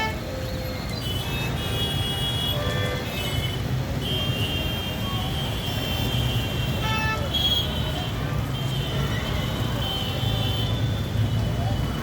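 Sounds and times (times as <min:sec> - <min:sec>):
vehicle horns: 0:00.0 - 0:00.3, 0:01.0 - 0:11.1
engines rumbling in traffic: 0:00.0 - 0:12.0.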